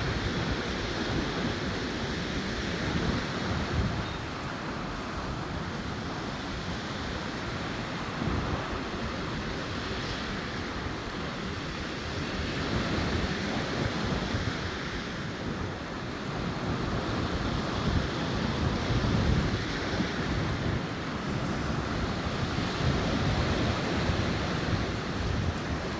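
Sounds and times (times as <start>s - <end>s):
sea surf washing onto shore: 0.0s - 25.9s
wind buffeting microphone: 0.0s - 25.9s.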